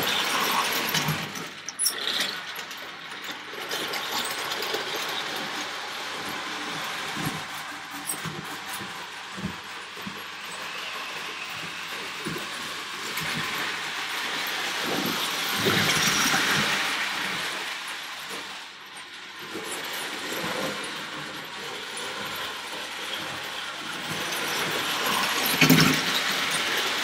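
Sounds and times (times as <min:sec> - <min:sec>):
toy train whirring and clattering on track: 0:00.0 - 0:27.0.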